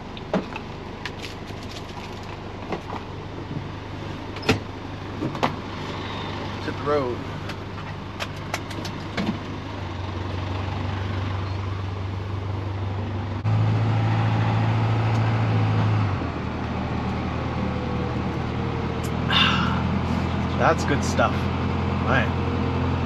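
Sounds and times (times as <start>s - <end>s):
truck engine driving: 0.0s - 23.0s.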